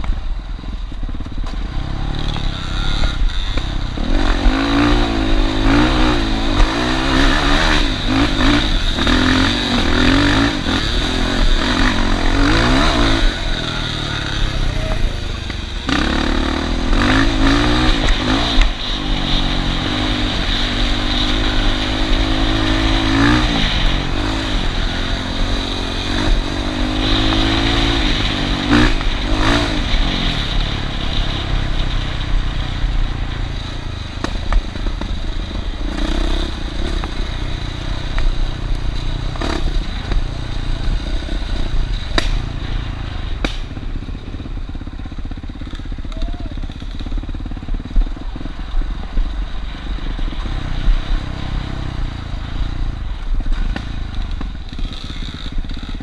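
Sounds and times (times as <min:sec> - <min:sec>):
clatter: 0:00.0 - 0:56.0
off-road vehicle engines revving: 0:01.1 - 0:56.0.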